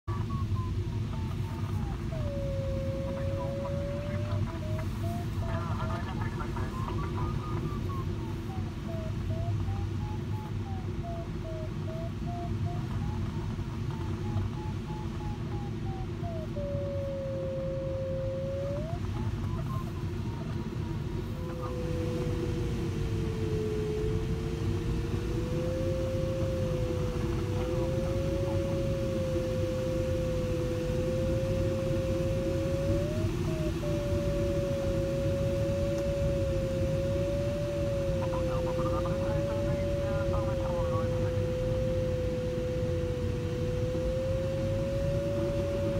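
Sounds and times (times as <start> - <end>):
variometer beeping tone: 0.0 - 45.9
rush of air past cockpit: 0.1 - 45.9.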